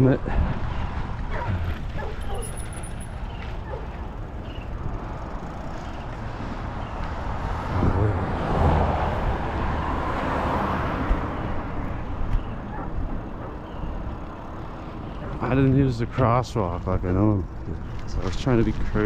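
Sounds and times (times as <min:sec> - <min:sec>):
car passing: 0:00.5 - 0:19.0
wind rumble on microphone: 0:03.2 - 0:19.0.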